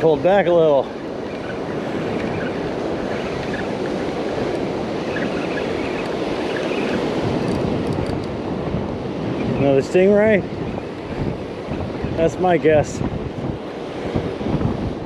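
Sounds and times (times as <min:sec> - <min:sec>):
ocean surf breaking on beach: 0:00.0 - 0:15.0
wind noise on microphone: 0:00.0 - 0:15.0.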